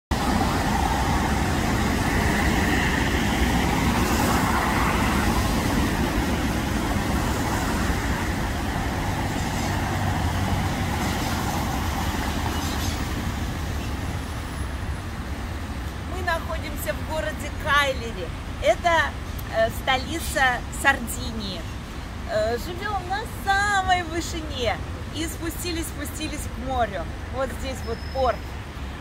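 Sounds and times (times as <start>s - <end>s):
traffic on wet street: 0.1s - 29.0s.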